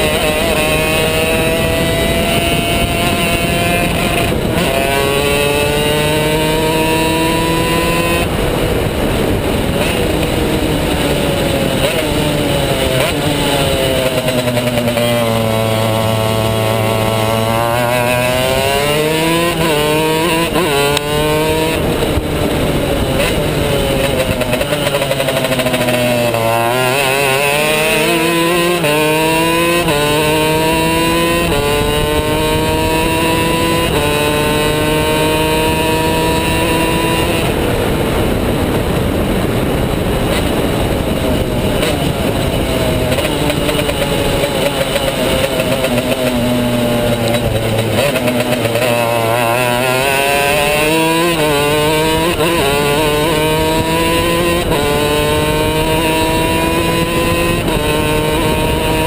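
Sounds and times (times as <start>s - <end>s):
kart engine racing: 0.0s - 59.0s.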